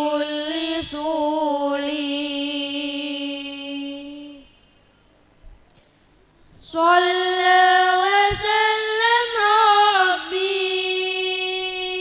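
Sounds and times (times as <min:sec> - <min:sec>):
woman singing long note: 0:00.0 - 0:04.7, 0:06.6 - 0:12.0.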